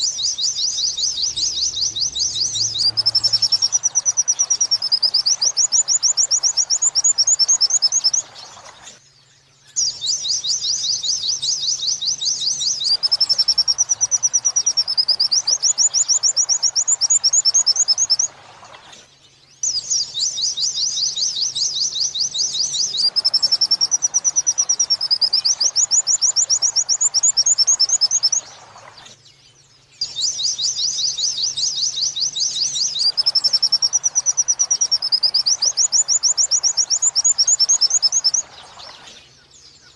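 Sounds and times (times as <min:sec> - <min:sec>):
bird whistled phrase: 0:00.0 - 0:09.0, 0:09.6 - 0:18.3, 0:18.9 - 0:29.2, 0:30.0 - 0:39.9
bird chirping song: 0:00.0 - 0:39.9.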